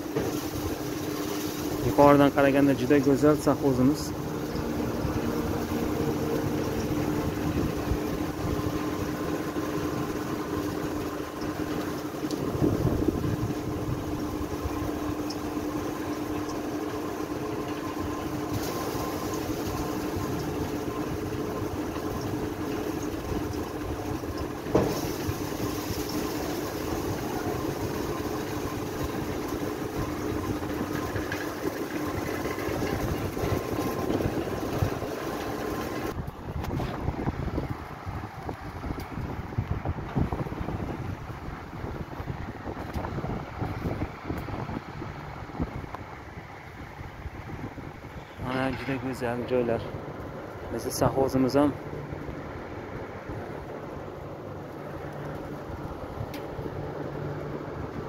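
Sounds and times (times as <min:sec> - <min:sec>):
machinery humming: 0:00.0 - 0:58.0.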